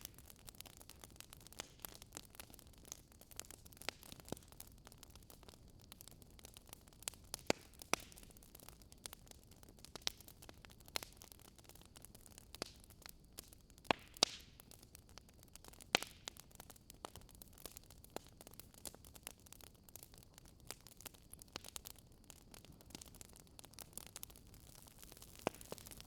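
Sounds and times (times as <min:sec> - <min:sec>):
bonfire crackling: 0:00.0 - 0:26.0.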